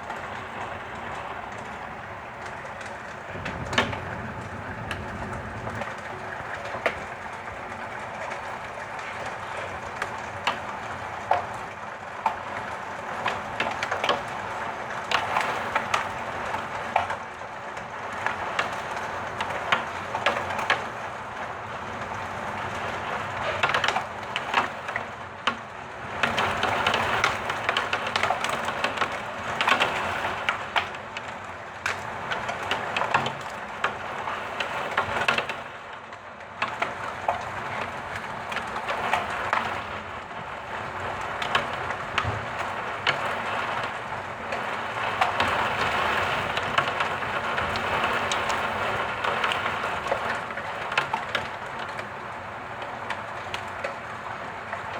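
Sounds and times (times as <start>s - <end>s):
hailstones clicking on hard surfaces: 0.0s - 54.9s
heavy rain patter: 0.0s - 54.9s.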